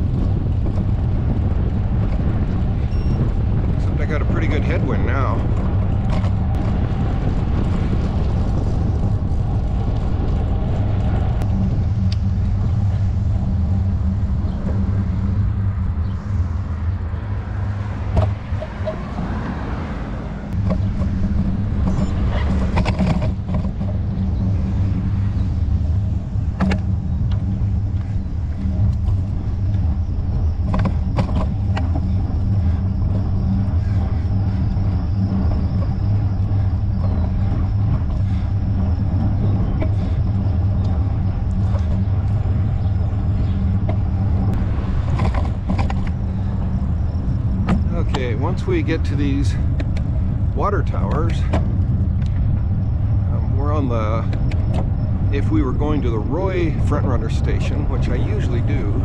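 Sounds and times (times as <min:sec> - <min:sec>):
bicycle clicks over bumps: 0:00.0 - 0:59.0
bicycle tyre rumble: 0:00.0 - 0:59.0
wind on microphone: 0:00.0 - 0:59.0.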